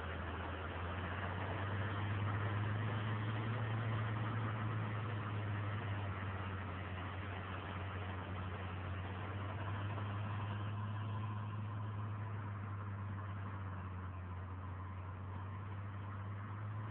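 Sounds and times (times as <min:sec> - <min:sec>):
tractor diesel engine under load: 0:00.0 - 0:16.9.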